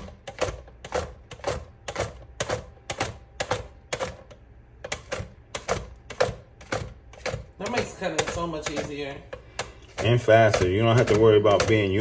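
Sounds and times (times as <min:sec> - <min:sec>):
cucumber sliced on a mandoline: 0:00.0 - 0:12.0.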